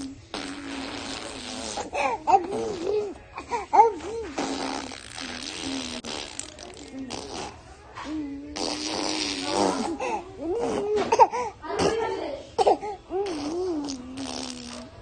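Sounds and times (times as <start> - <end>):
baby blowing raspberries: 0.0 - 7.6, 8.5 - 11.4, 13.1 - 15.0.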